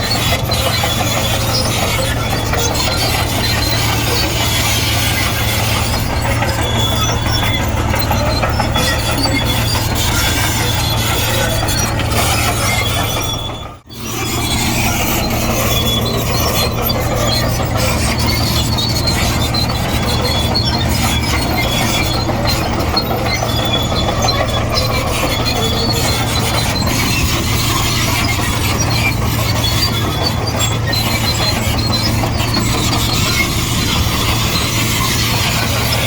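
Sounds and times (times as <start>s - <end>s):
diesel engine running under load: 0.0s - 36.0s
steel tracks squealing and clanking: 0.0s - 36.0s.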